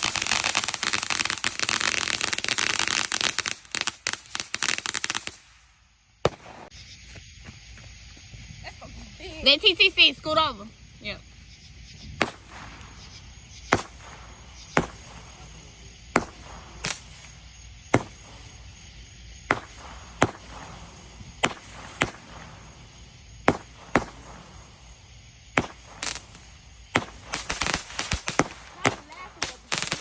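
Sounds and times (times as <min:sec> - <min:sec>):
fireworks bangs: 0:00.0 - 0:06.8, 0:12.1 - 0:30.0.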